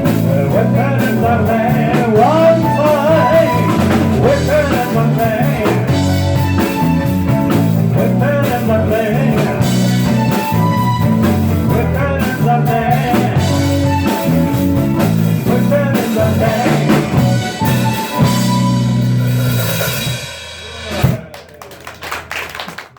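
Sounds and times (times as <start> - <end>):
live band playing: 0.0 - 21.4.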